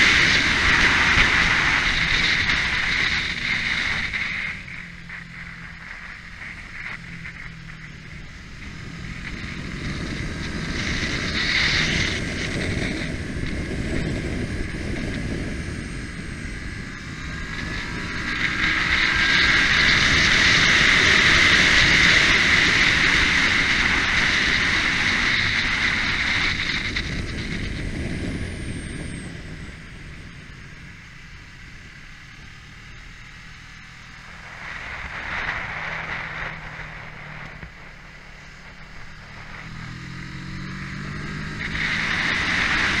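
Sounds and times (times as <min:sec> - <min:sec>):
motorcycle engine running hard: 0:00.0 - 0:43.0
wind rush over microphone: 0:00.0 - 0:43.0.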